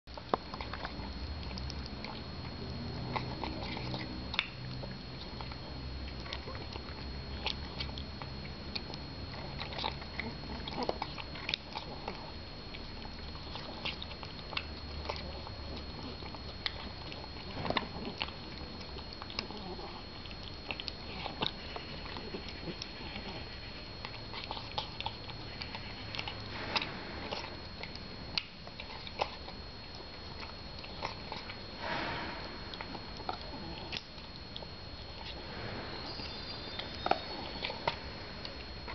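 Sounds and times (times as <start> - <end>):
cat chewing and smacking: 0.1 - 38.9.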